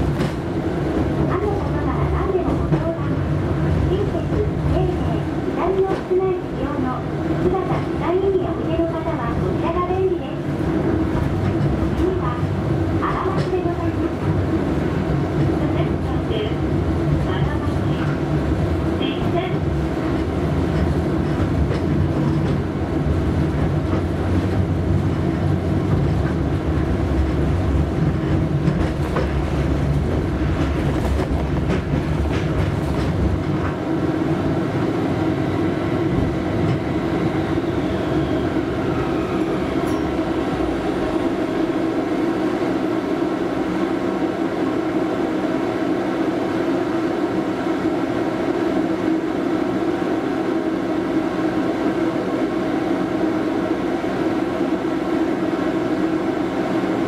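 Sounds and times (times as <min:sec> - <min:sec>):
tram motor and wheel rumble: 0:00.0 - 0:57.0.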